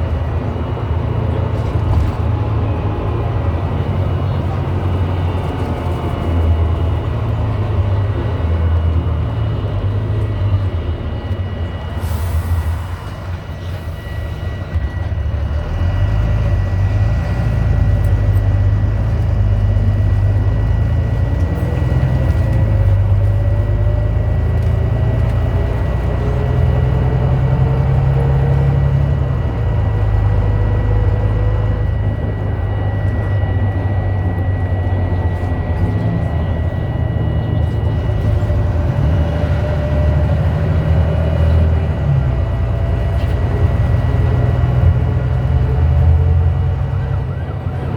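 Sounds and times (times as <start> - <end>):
bus diesel engine: 0.0 - 47.9
gearbox whine: 0.0 - 47.9.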